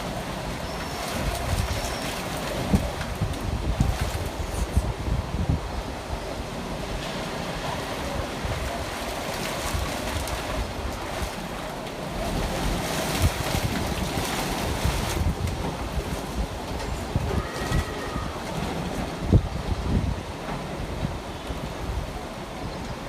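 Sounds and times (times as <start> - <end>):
rain falling: 0.0 - 23.0
wind gusting on microphone: 0.0 - 23.0.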